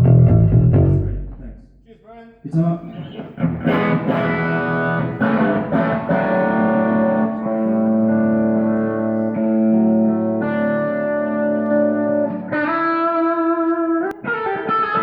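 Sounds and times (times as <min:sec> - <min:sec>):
overdriven electric guitar: 0:02.9 - 0:15.0.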